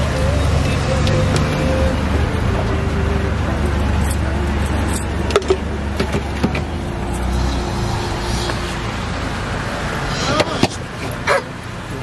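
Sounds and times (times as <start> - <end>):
road traffic drone: 0.0 - 12.0.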